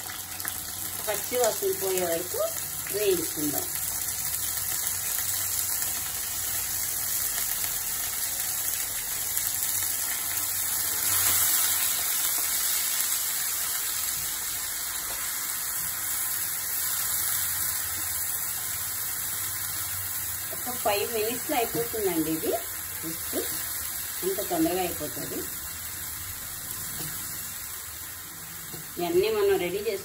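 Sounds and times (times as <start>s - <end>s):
onion paste sizzling in oil: 0.0s - 30.0s.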